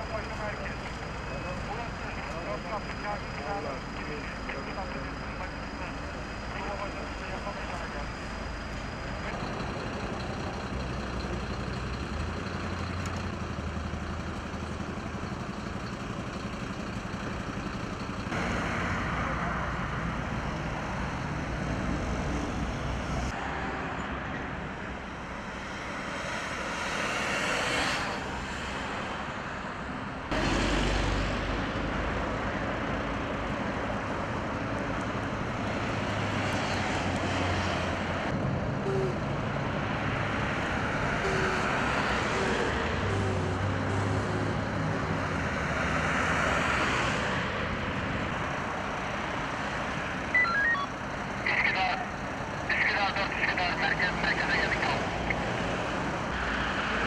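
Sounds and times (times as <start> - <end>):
steady road noise: 0.0 - 57.0
vehicles driving past: 0.0 - 57.0.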